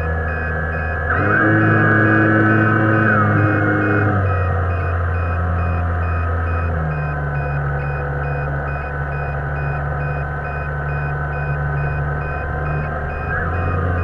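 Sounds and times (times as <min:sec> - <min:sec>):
electrical hum: 0:00.0 - 0:14.0
faint pulsing beep: 0:00.0 - 0:14.0
high whine: 0:00.0 - 0:14.0.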